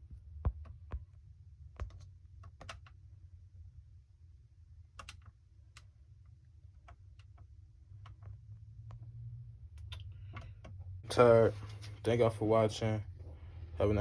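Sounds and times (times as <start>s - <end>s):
steady low hum: 2.5s - 14.0s.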